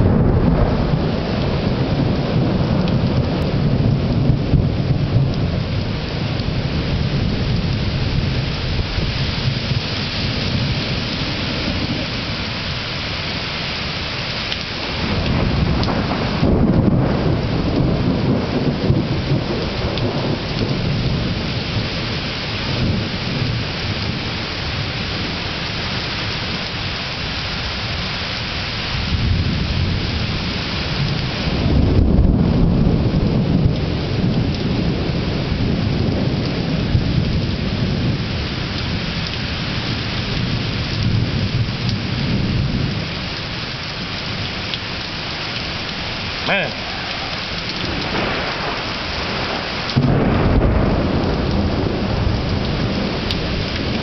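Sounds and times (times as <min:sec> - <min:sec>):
heavy rain: 0:00.0 - 0:54.0
rolling thunder: 0:00.0 - 0:54.0.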